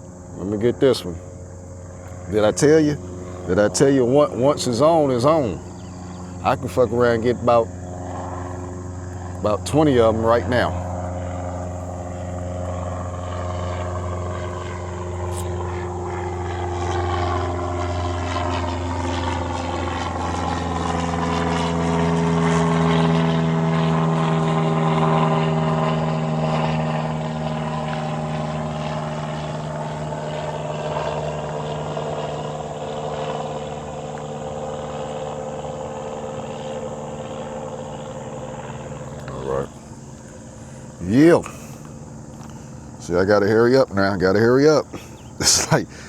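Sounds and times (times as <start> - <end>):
aircraft engine drone: 0.0 - 46.0.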